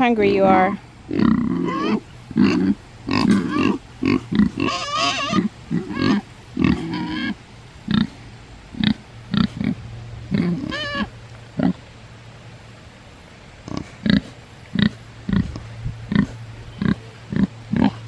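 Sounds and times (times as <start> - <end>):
high wavering pig calls: 0.5 - 11.8, 13.7 - 18.0
pigs grunting: 0.5 - 11.8, 13.6 - 18.0.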